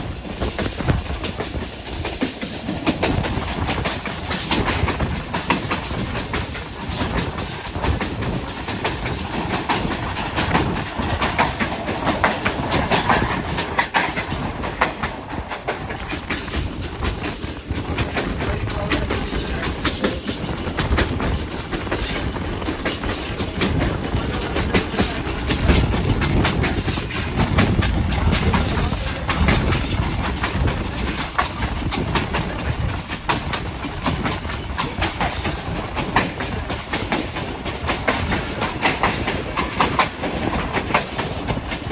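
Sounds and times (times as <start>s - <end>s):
train wheels clattering: 0.0s - 41.9s.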